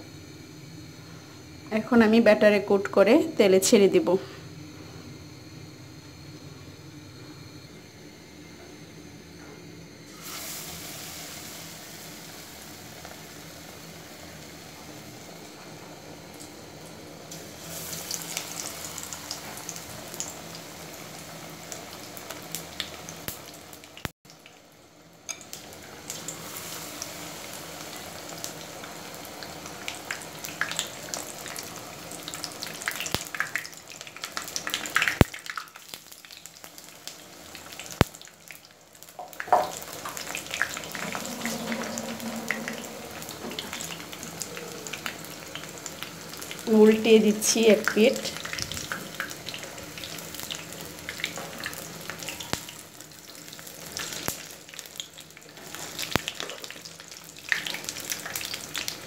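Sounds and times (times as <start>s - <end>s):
food deep-frying in oil: 10.0s - 59.0s.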